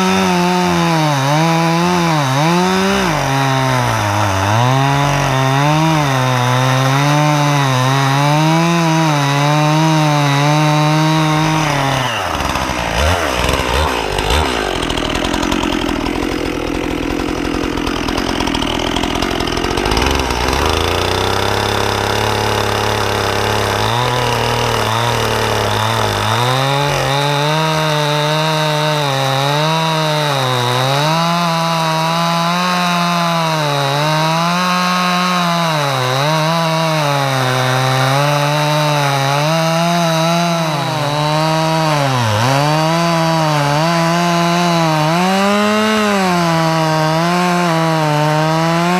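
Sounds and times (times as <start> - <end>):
chainsaw cutting into log: 0.0 - 48.9
chainsaw running: 0.0 - 48.9.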